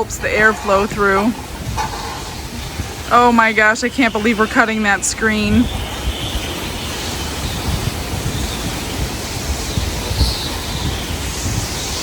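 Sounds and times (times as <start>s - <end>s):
gusty wind rushing: 0.0s - 12.0s
wind buffeting microphone: 0.0s - 12.0s.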